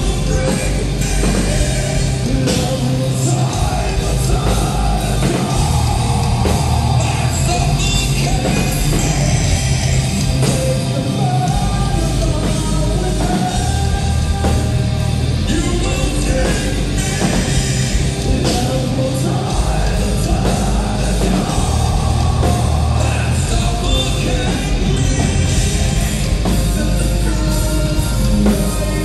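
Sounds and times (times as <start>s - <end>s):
hard rock band playing: 0.0s - 29.0s
man singing: 0.0s - 29.0s.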